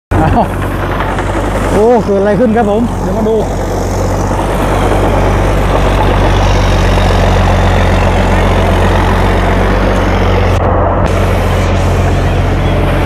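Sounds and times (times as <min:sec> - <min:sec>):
engine drone: 0:00.1 - 0:13.0
straw baling mechanism working: 0:00.1 - 0:13.0.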